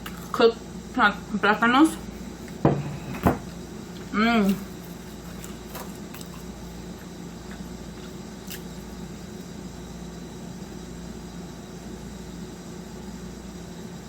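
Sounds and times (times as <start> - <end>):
low appliance hum: 0.0 - 14.0.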